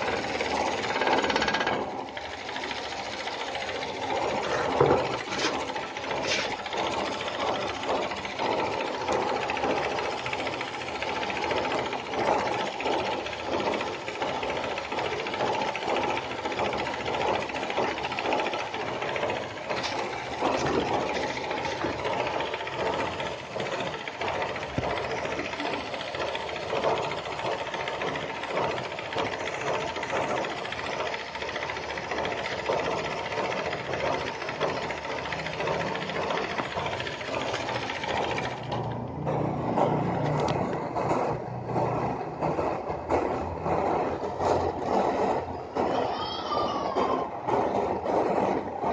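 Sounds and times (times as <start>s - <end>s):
model steam engine clattering: 0.0s - 48.9s.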